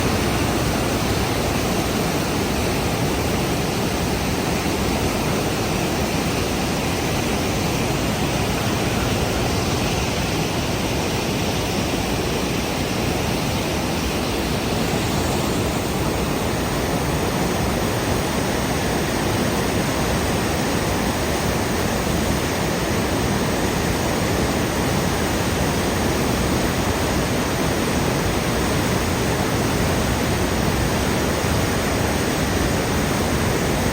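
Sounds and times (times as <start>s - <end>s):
river rushing in flood: 0.0s - 33.9s.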